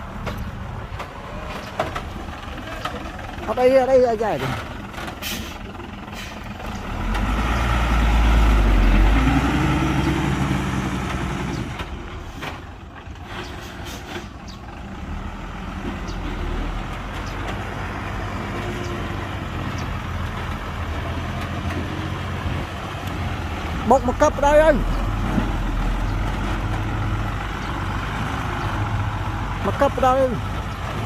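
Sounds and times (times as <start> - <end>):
heavy diesel engine under load: 0.0 - 31.0.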